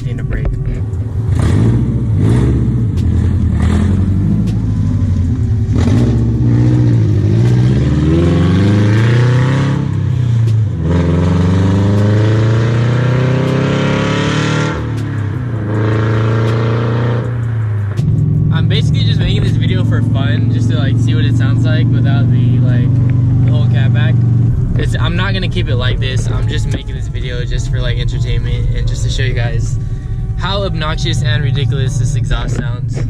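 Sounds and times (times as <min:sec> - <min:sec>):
loud car engine revving: 0:00.0 - 0:33.0.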